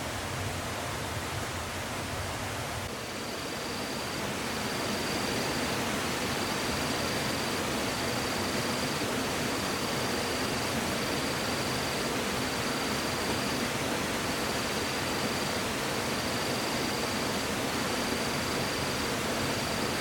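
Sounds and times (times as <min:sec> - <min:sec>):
steady rushing noise: 0:02.8 - 0:20.0
high insect call: 0:02.9 - 0:20.0.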